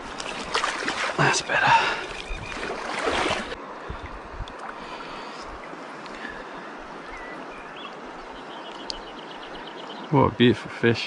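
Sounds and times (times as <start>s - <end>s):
faint waterside background hiss: 0.0s - 11.0s.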